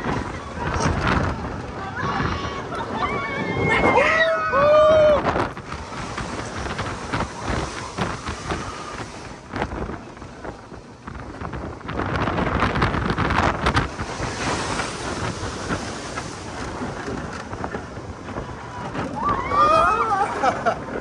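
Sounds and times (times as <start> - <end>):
roller coaster rattling on track: 0.0 - 21.0
wind on microphone: 0.0 - 21.0.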